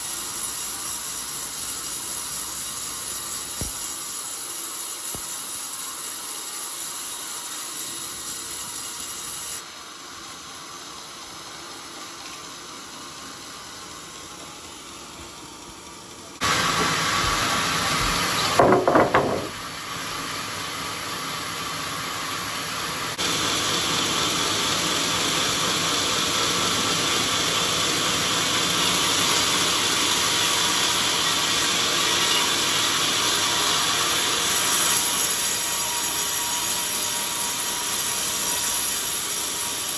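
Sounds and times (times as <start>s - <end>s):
band saw rasping through timber: 0.0s - 15.4s, 22.0s - 39.9s.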